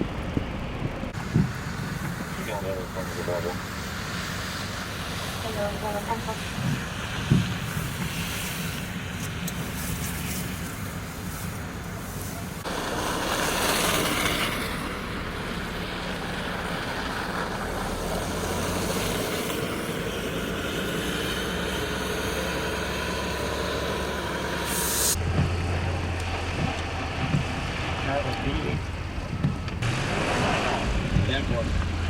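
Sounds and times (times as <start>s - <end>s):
low engine hum: 0.0s - 32.0s
traffic noise: 0.0s - 32.0s
vehicle engine running: 0.0s - 32.0s.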